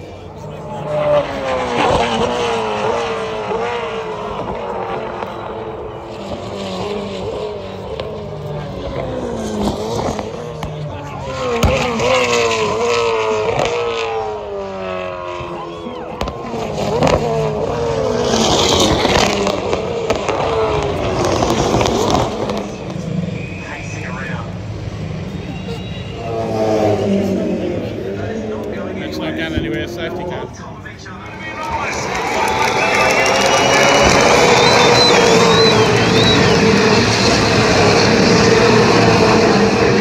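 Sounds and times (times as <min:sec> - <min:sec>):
race cars passing: 0:00.0 - 0:40.0.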